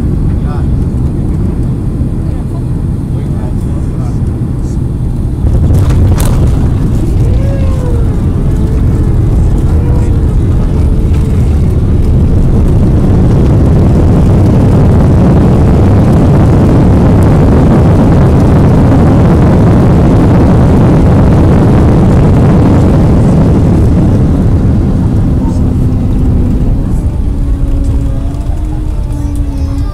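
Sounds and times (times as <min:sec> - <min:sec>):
jet engines rumbling: 0:00.0 - 0:29.9.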